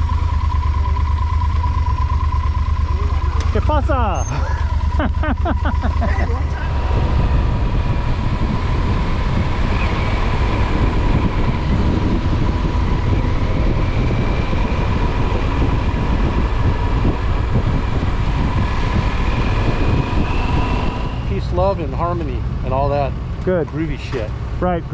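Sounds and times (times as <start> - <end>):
motorcycle engine running: 0.0 - 24.9
wind and road noise: 0.0 - 24.9.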